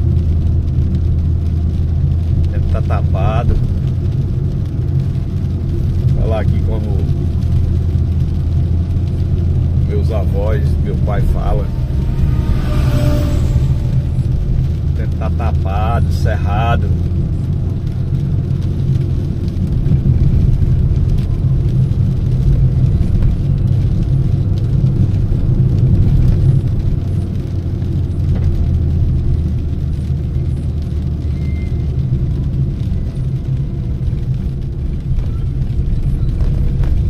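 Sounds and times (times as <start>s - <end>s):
car engine and tyres on wet road: 0.0s - 37.0s.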